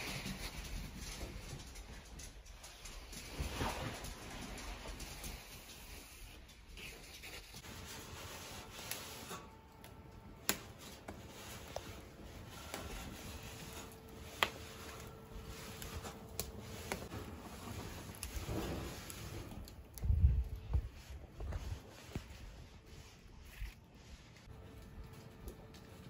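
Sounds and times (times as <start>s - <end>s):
firewood burning and crackling: 0.0s - 26.0s.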